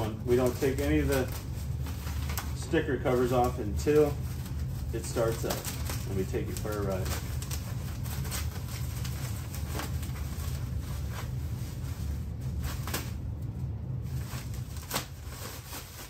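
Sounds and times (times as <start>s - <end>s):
plastic wrapping crinkling: 0.0s - 16.0s
steady low hum: 0.0s - 16.0s.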